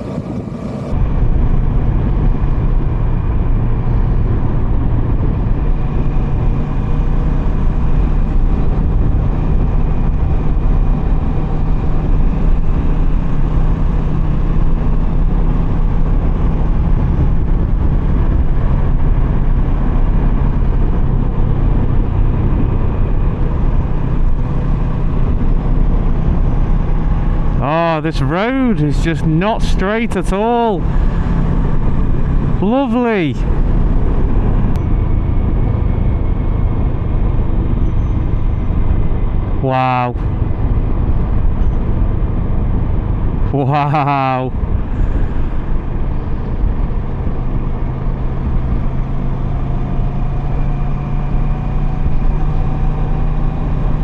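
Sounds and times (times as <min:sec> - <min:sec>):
wind rumble on microphone: 0:00.0 - 0:27.6, 0:30.8 - 0:32.6, 0:33.4 - 0:39.6, 0:40.2 - 0:43.5, 0:44.5 - 0:54.0
motorcycle engine cruising: 0:00.0 - 0:28.7, 0:29.9 - 0:32.7, 0:33.4 - 0:43.5, 0:44.6 - 0:54.0.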